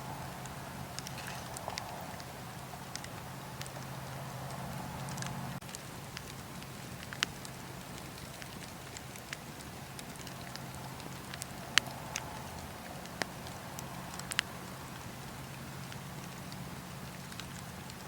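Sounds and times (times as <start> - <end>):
fire crackling and popping: 0.0 - 18.0
low hiss of burning: 0.0 - 18.0.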